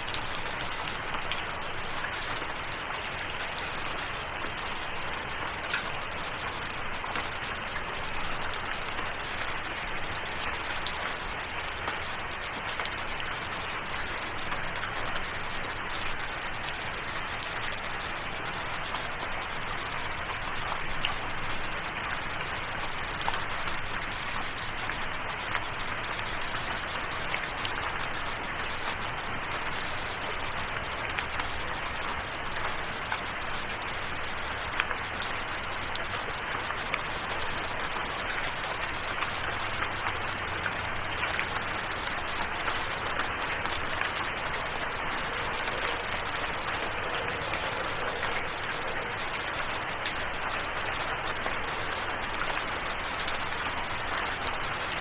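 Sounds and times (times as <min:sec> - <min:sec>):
raindrops ticking on a surface: 0:00.0 - 0:55.0.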